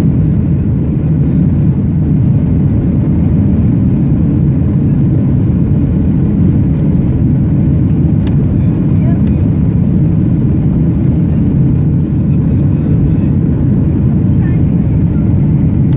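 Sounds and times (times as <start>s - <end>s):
jet engines rumbling: 0.0s - 15.9s.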